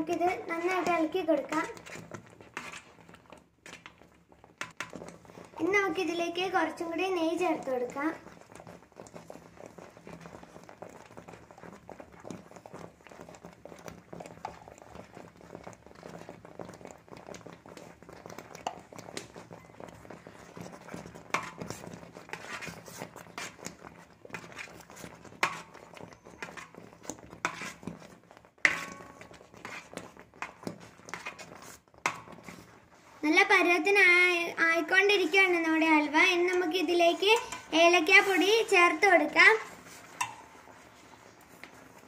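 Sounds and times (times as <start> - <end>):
sticky squelches and scrapes: 0.0 - 34.2, 34.8 - 42.0.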